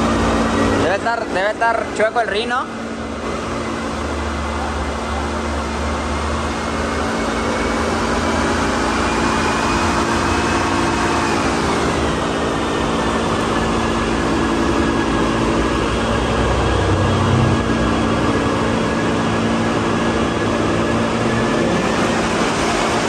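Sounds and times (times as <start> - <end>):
car engine running on dyno: 0.0 - 23.0
dyno fan and roller noise: 0.0 - 23.0
high whine: 0.0 - 23.0.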